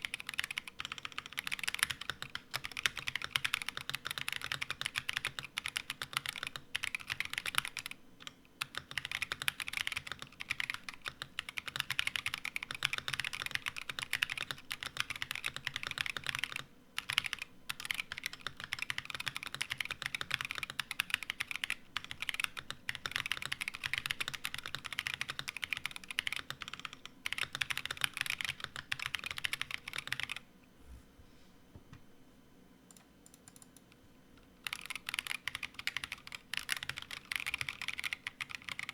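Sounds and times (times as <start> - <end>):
mechanical keyboard typing: 0.0 - 30.4, 32.9 - 33.9, 34.6 - 38.9.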